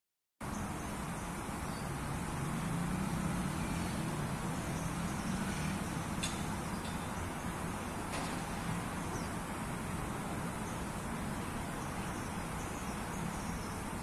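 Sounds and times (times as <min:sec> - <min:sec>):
outdoor background rumble: 0:00.4 - 0:14.0.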